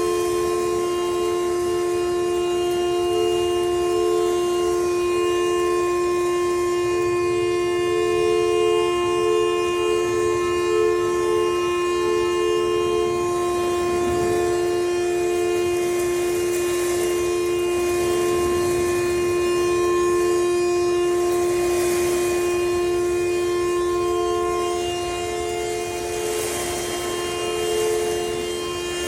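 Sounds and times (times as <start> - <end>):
fainter second siren tone: 0.0 - 29.0
warning siren steady tone: 0.0 - 29.0.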